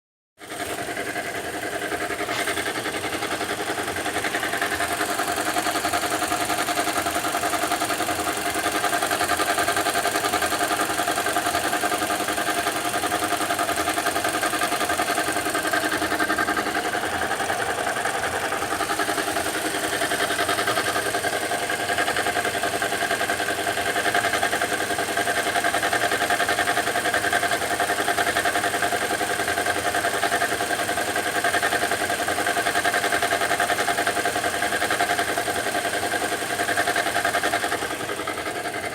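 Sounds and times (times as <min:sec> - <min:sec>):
car engine idling: 0:00.4 - 0:38.9.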